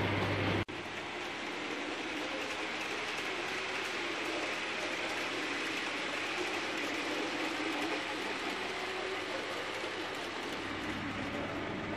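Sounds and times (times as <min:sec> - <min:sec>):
model locomotive motor running: 0:00.0 - 0:11.9
model train wheels clattering on rails: 0:00.0 - 0:11.9.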